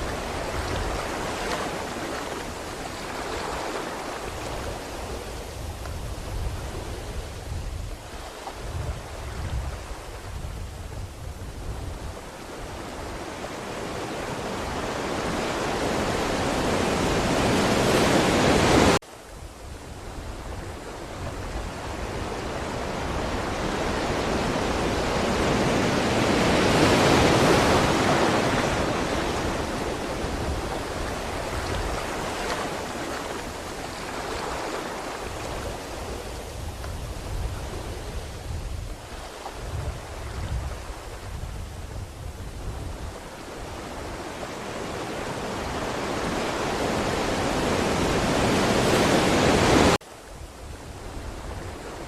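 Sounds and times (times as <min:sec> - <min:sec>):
ocean waves washing onto shore: 0:00.0 - 0:52.0.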